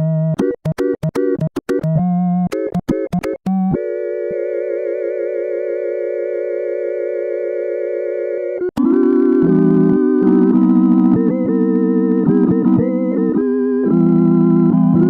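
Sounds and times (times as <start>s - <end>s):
synthesizer organ chords: 0.0s - 15.0s.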